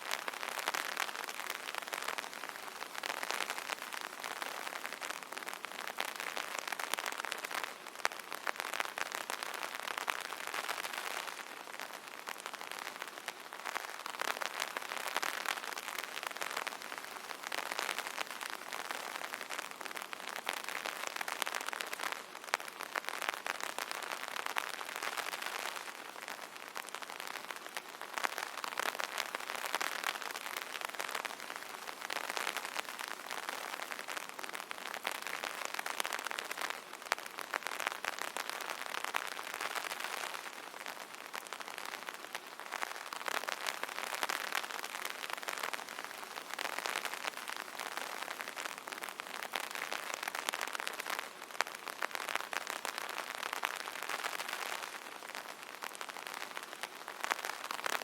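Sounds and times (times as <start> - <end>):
rain drumming on an umbrella: 0.0 - 58.0.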